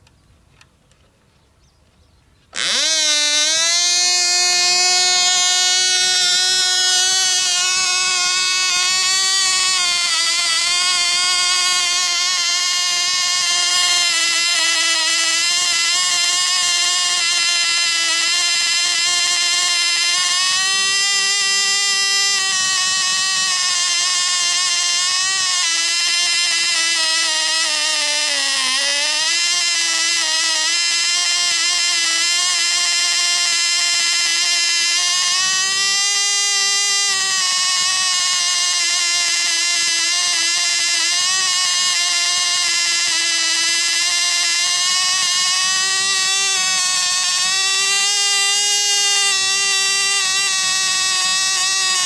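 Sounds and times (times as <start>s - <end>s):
tiny model engine buzzing: 2.5s - 52.0s.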